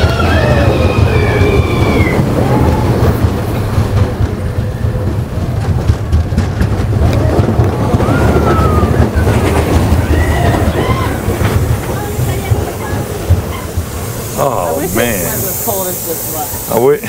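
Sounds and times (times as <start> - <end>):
wind on microphone: 0.0 - 15.7
roller coaster rumbling: 0.0 - 17.0
track clacks: 0.0 - 17.0.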